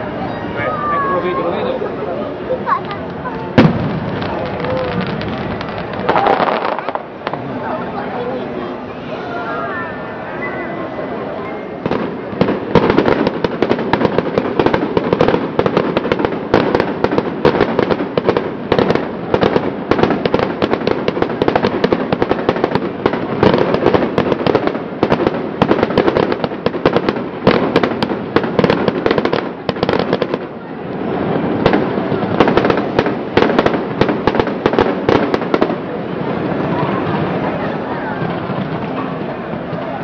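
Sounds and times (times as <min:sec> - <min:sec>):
fireworks bangs and crackling: 0:00.8 - 0:09.0, 0:11.4 - 0:40.0.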